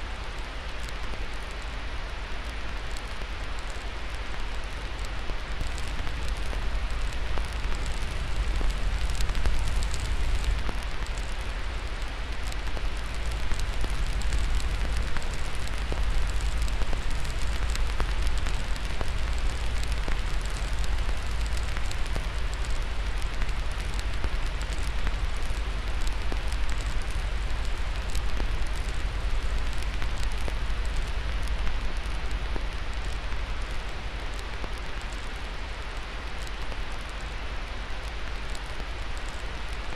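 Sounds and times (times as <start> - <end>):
fire crackling and popping: 0.0 - 39.9
steady hiss: 0.0 - 39.9.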